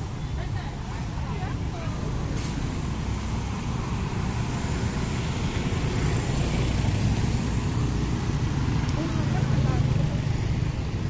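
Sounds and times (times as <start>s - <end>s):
cars driving past: 0.0s - 11.0s
motorbikes driving past: 0.8s - 11.0s.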